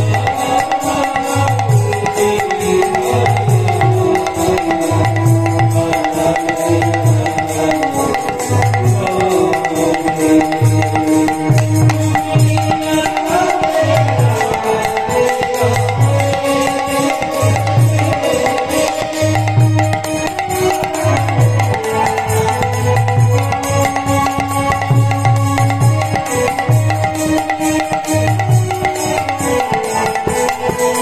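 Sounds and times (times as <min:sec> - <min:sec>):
man singing: 0:00.0 - 0:31.0
tabla playing: 0:00.0 - 0:31.0.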